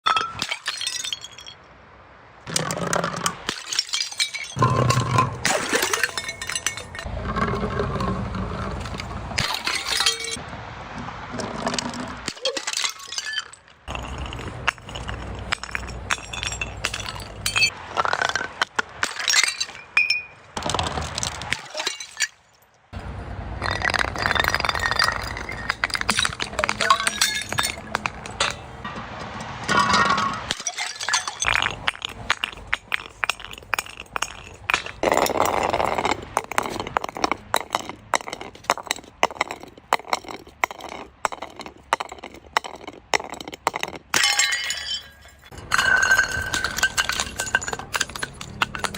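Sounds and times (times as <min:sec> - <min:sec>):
glass bottles crushing and breaking: 0:00.0 - 0:01.6, 0:02.5 - 0:10.4, 0:11.4 - 0:22.6, 0:23.6 - 0:28.8, 0:29.6 - 0:48.9.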